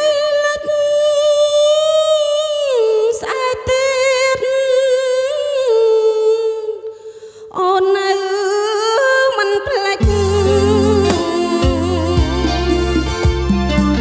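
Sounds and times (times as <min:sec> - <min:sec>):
woman singing into a microphone: 0:00.0 - 0:13.1.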